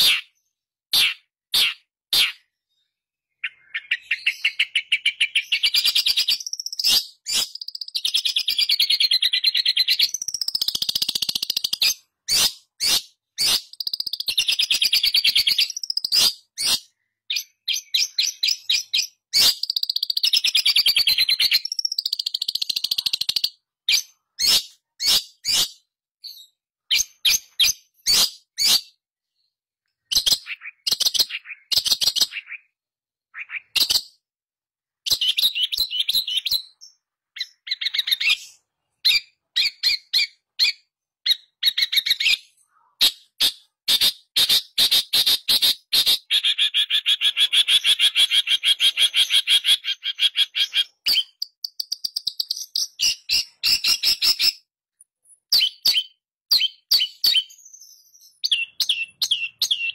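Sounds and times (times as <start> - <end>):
bird singing fast chattering notes: 3.3 - 29.0, 30.0 - 34.2, 35.0 - 42.5, 43.1 - 54.7, 55.5 - 59.9.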